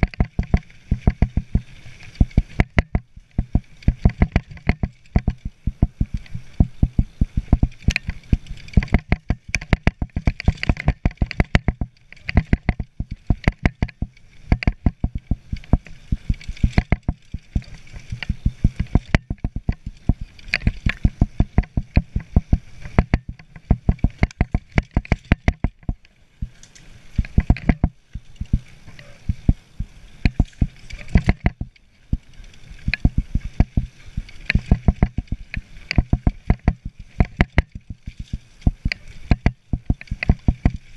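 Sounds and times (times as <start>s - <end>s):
knocks from bumps: 0.0s - 26.0s, 27.2s - 29.6s, 30.2s - 33.9s, 34.5s - 40.8s
mountain bike rattling on rough trail: 0.0s - 40.9s.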